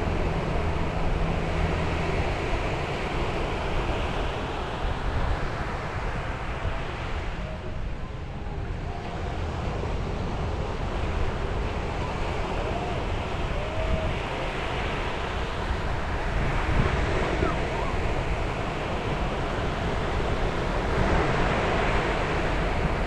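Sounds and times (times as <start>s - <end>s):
sea waves breaking on shore: 0.0s - 23.0s
wind rumbling on the microphone: 0.0s - 23.0s.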